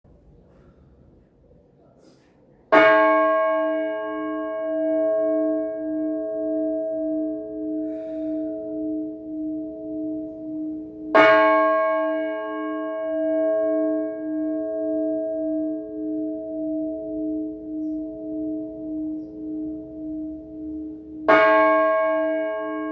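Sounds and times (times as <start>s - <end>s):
church bell ringing: 2.7s - 22.9s.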